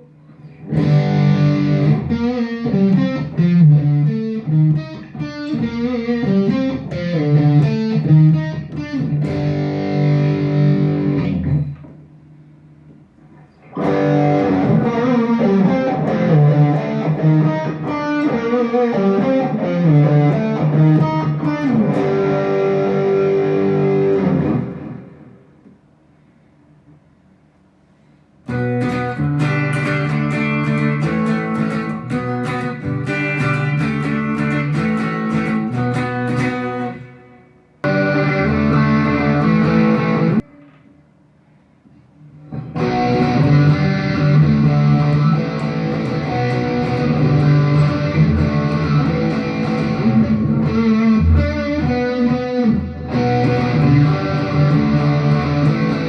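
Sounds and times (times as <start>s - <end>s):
electric guitar: 0.0s - 25.9s, 28.4s - 41.0s, 41.8s - 56.0s.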